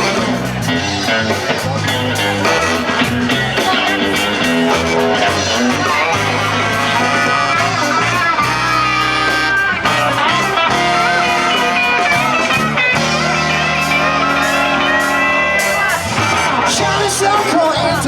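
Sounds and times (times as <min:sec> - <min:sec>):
live band with electric guitar: 0:00.0 - 0:18.0.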